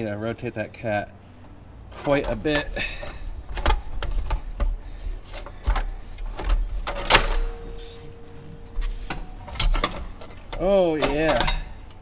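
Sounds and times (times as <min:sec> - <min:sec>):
metal exhaust parts clunking: 0:01.3 - 0:12.0.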